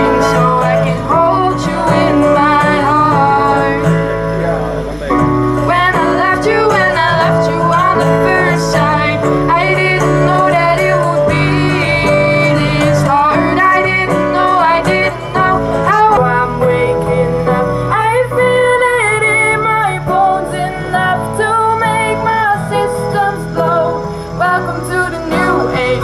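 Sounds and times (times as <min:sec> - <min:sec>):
woman singing: 0:00.0 - 0:04.2, 0:05.6 - 0:26.0
acoustic guitar: 0:00.0 - 0:26.0
keyboard: 0:00.0 - 0:26.0.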